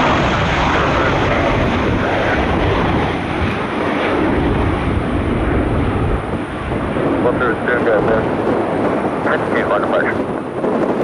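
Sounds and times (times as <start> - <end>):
jet airliner engines roaring: 0.0 - 11.0.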